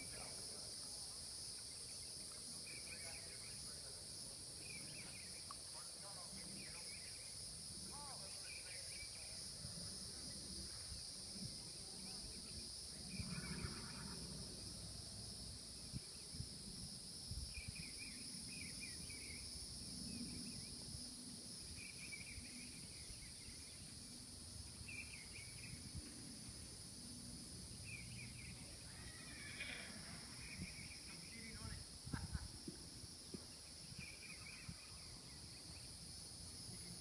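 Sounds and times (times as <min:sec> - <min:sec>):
insect chirps: 0:00.0 - 0:37.0
insect chorus drone: 0:00.0 - 0:37.0.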